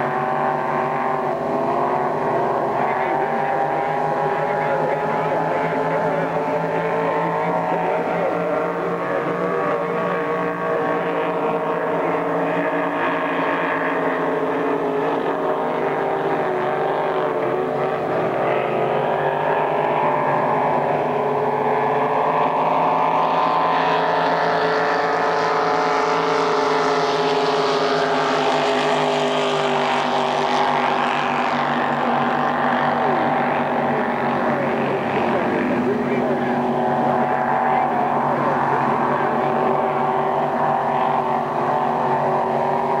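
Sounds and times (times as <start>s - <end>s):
powerboat engines droning: 0.0s - 43.0s.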